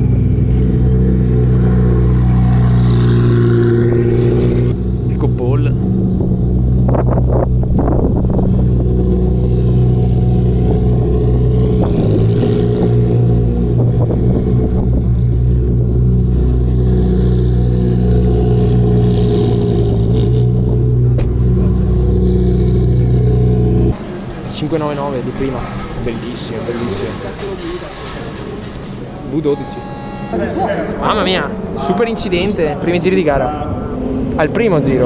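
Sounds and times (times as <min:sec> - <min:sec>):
racing car engines running: 0:00.0 - 0:35.0.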